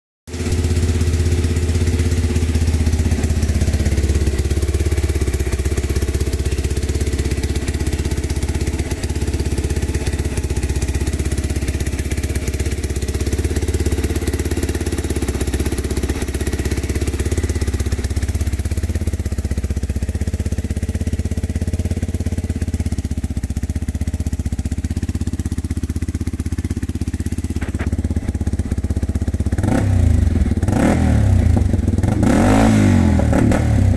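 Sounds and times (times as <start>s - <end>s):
motorcycle engine idling: 0.3s - 33.9s.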